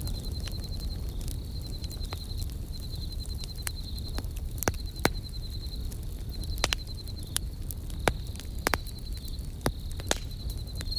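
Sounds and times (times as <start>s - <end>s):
campfire crackling: 0.0s - 10.9s
crickets chirping: 0.0s - 10.9s.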